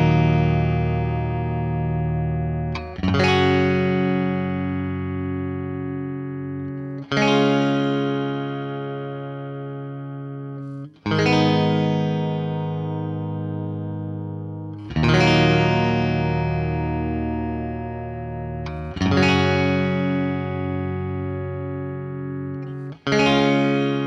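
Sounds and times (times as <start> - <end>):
electric guitar chords ringing: 0.0 - 24.0.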